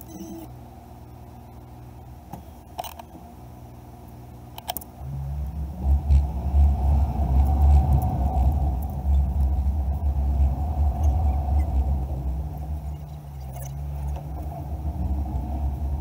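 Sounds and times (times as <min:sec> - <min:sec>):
engine and road rumble: 0:00.6 - 0:16.0.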